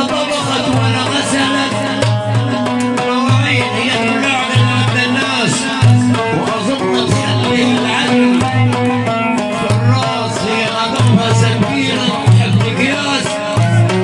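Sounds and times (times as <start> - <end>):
man singing into a microphone: 0.0 - 14.0
oud playing: 0.0 - 14.0.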